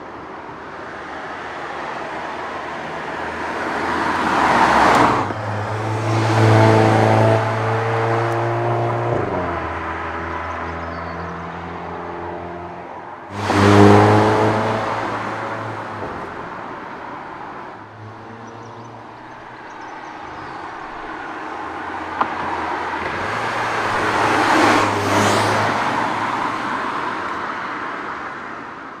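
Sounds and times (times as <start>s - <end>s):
car engine and exhaust passing: 2.8s - 27.4s.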